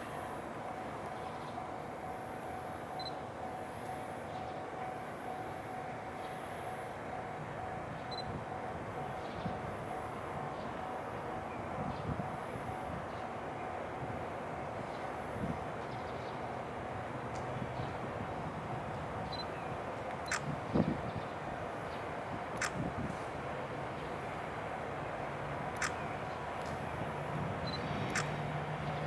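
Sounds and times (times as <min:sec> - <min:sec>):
electric locomotive whine: 0:00.0 - 0:29.0
train running noise: 0:00.0 - 0:29.0.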